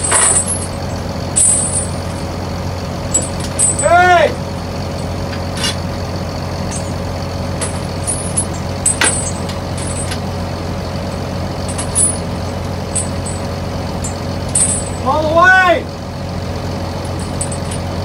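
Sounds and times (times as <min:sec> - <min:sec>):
steel chains clinking: 0:00.0 - 0:15.8, 0:16.7 - 0:18.0
engine drone: 0:00.0 - 0:18.0.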